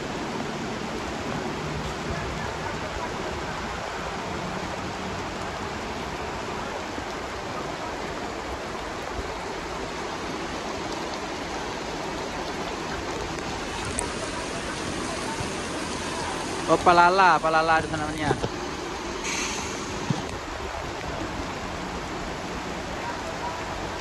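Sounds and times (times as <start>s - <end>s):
heavy rain on road: 0.0s - 24.0s.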